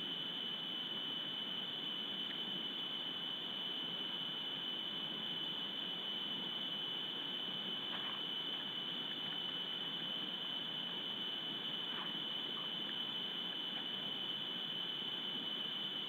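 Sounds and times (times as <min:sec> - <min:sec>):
high-pitched electronic whine: 0:00.0 - 0:16.0.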